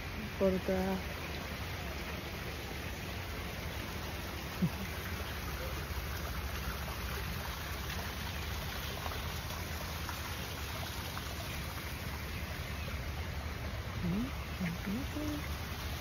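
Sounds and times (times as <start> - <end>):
waterfall splashing into pond: 0.0 - 16.0.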